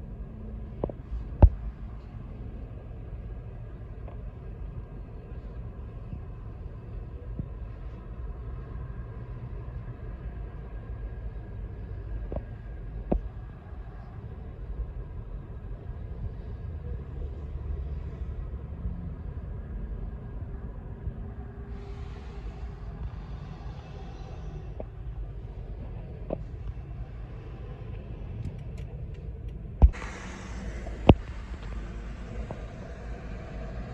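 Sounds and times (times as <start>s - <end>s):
road traffic rumble: 0.0s - 33.9s.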